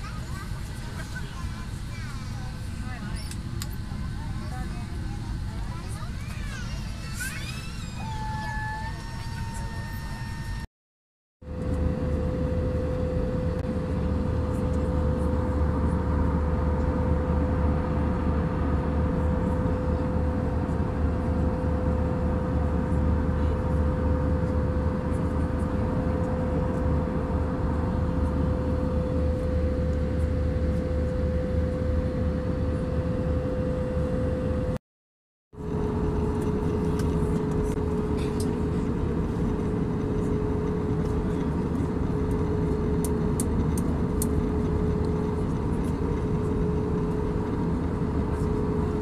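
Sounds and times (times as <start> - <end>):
constant cabin hum: 0.0 - 10.6, 11.5 - 34.8, 35.6 - 49.0
airplane engines and airflow rush: 0.0 - 10.7, 11.4 - 34.8, 35.6 - 49.0.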